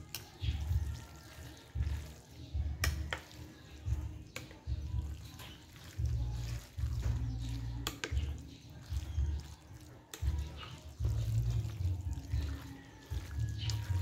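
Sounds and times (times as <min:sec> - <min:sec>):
wet squelching of pasta: 0:00.0 - 0:14.0.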